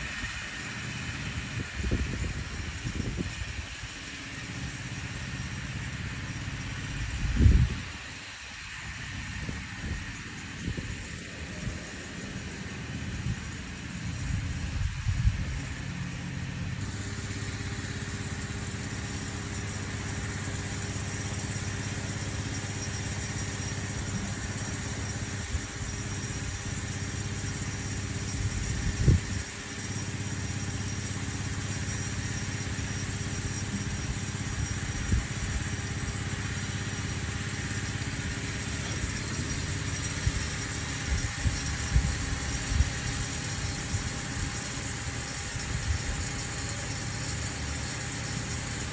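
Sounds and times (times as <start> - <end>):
pump engine running: 0.0 - 48.9
spraying water hiss: 0.0 - 48.9.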